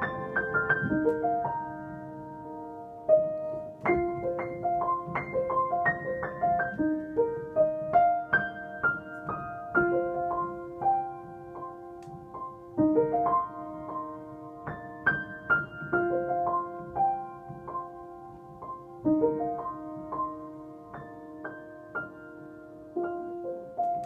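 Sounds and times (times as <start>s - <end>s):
piano melody: 0.0s - 24.0s.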